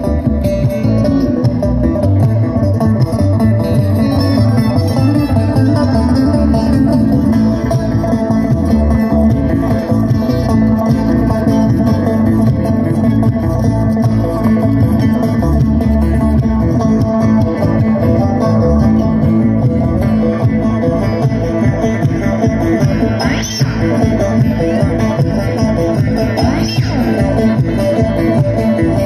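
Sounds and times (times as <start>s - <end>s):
banjo: 0.0s - 29.0s
bluegrass band playing: 0.0s - 29.0s
picked acoustic guitar: 0.0s - 29.0s.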